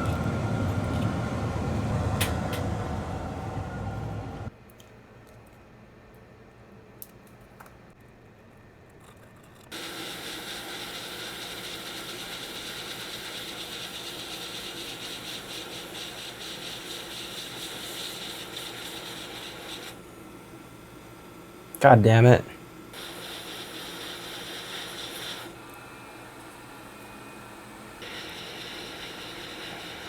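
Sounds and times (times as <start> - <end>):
hot air station hissing: 0.0 - 4.5, 9.8 - 21.3, 21.9 - 30.0.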